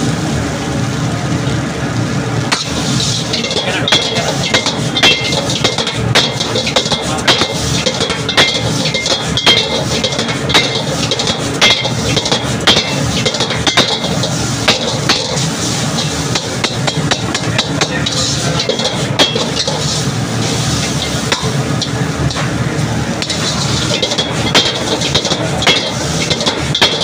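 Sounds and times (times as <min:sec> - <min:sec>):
gas burner roaring: 0:00.0 - 0:27.0
metal spatula clanking on wok: 0:02.5 - 0:27.0.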